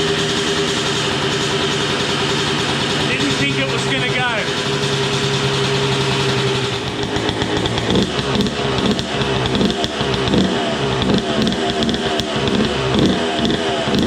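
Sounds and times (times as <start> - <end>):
two-stroke engine running: 0.0 - 14.0.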